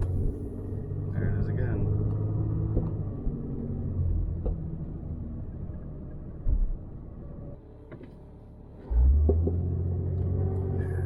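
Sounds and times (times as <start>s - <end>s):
car road and drivetrain rumble: 0.0s - 11.0s.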